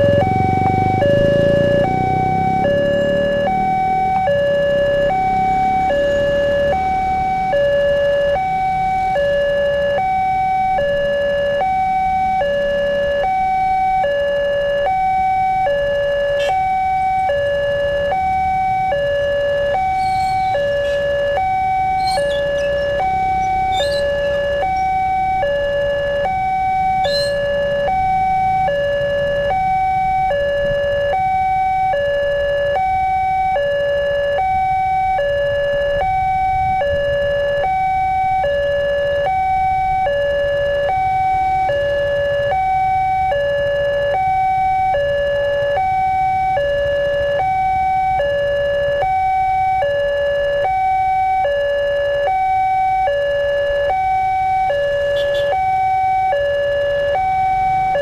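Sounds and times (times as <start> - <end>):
level crossing warning bell: 0.0 - 58.0
low road noise rumble: 0.0 - 58.0.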